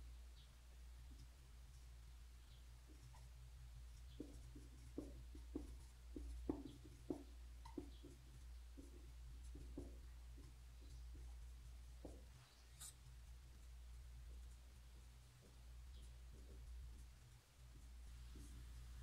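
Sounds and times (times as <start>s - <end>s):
marker pen writing on whiteboard: 2.5s - 19.0s.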